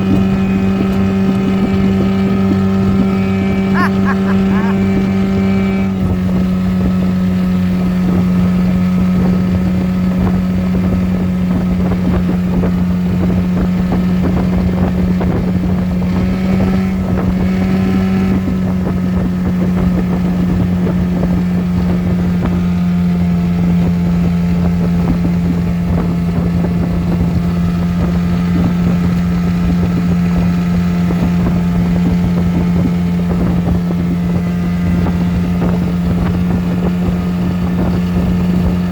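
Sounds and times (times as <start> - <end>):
outboard motor running: 0.0 - 38.9
wind buffeting microphone: 0.0 - 38.9.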